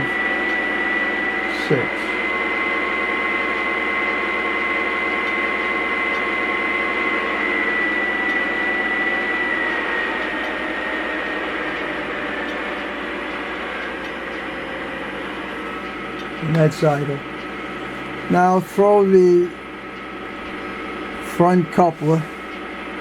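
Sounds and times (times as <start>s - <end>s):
model locomotive diesel engine sound: 0.0s - 23.0s.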